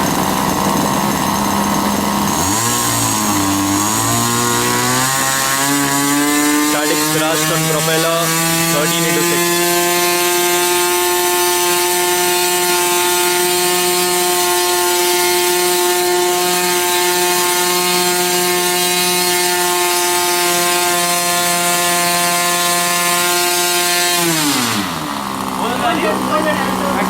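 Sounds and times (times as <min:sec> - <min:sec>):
model airplane engine buzzing: 0:00.0 - 0:27.0.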